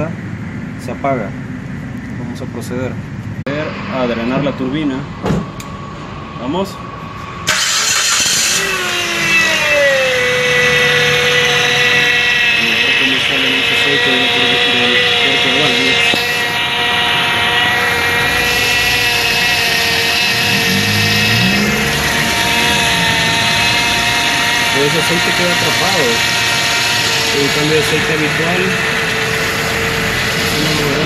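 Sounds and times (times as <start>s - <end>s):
engine whine: 0.0s - 31.0s.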